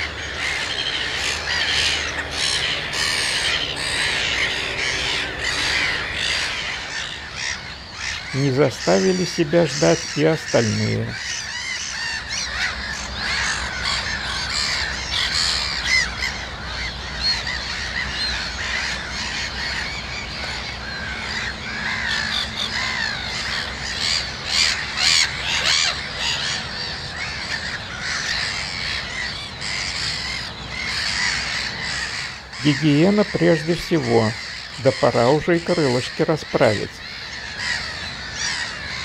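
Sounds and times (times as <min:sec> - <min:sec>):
gulls calling: 0:00.0 - 0:39.0
low steady hum: 0:00.0 - 0:39.0.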